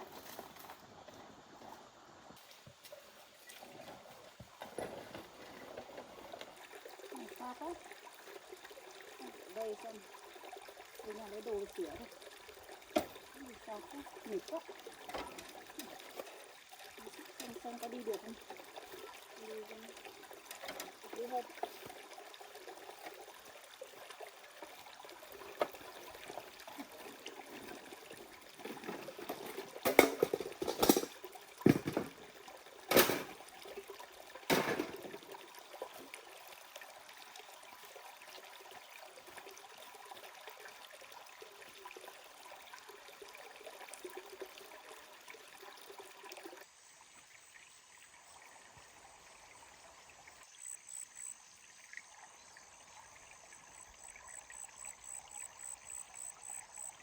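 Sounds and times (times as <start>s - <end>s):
flowing water: 0.0s - 57.0s.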